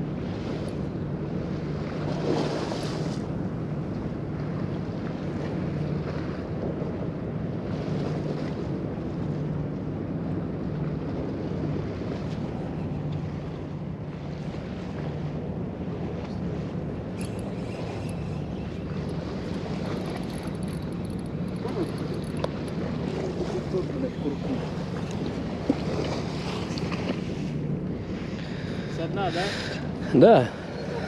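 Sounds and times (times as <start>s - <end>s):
low hum: 0.0s - 31.0s
sea washing: 0.0s - 31.0s.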